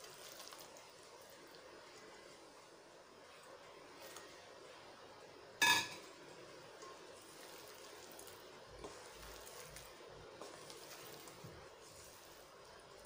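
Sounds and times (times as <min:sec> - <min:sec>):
hand mixing food in batter: 0:00.0 - 0:05.5, 0:06.3 - 0:13.0.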